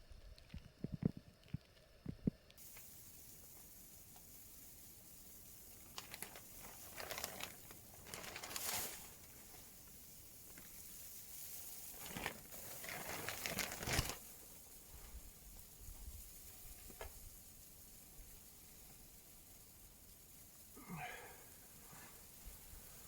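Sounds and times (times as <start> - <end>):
rustling and crinkling: 0.0 - 19.6, 21.4 - 23.0
faint steady hiss: 0.0 - 23.0.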